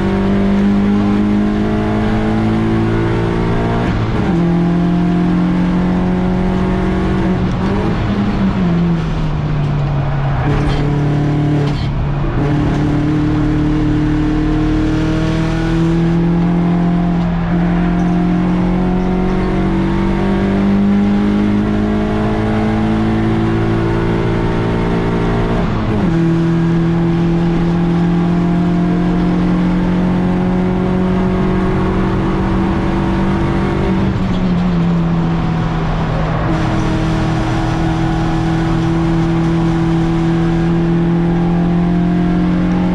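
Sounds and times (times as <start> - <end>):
race car engine accelerating: 0.0 - 42.9.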